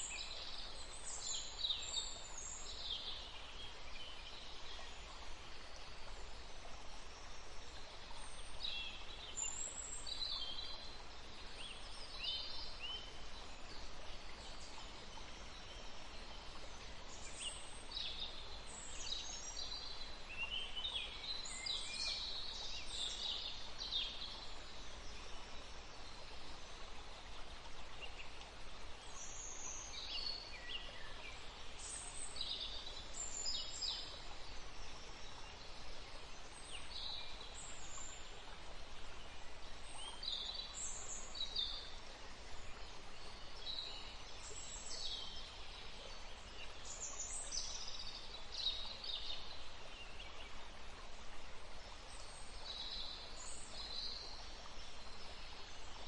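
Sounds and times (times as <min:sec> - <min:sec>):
forest stream rushing: 0:00.0 - 0:56.0.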